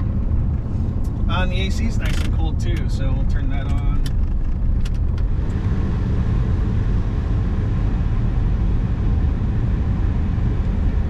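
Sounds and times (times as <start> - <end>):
diesel engine running: 0.0 - 11.0
tyre and road rumble: 0.0 - 11.0.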